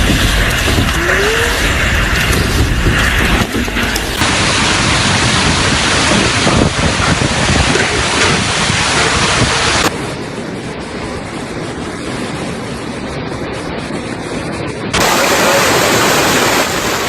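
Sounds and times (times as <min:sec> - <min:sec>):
storm rushing noise: 0:00.0 - 0:17.0
wind buffeting microphone: 0:00.0 - 0:17.0.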